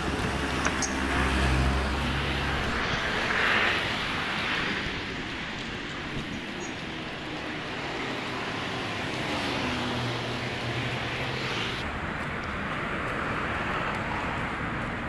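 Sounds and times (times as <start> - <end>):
city street traffic: 0.0 - 15.0
engine hum: 0.0 - 15.0.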